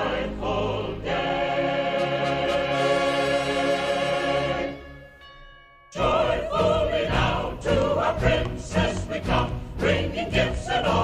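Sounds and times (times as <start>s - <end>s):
choir and orchestra chord: 0.0s - 5.0s, 6.0s - 11.0s.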